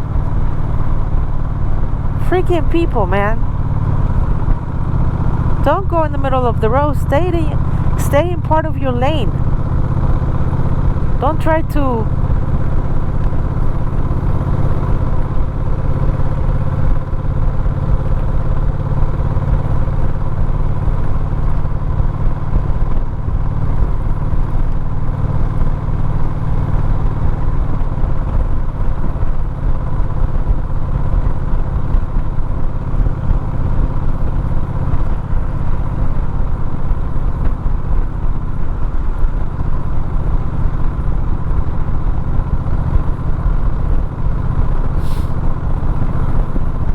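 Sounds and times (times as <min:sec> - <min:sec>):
motorcycle engine running: 0:00.0 - 0:46.9
road and wind noise: 0:00.0 - 0:46.9.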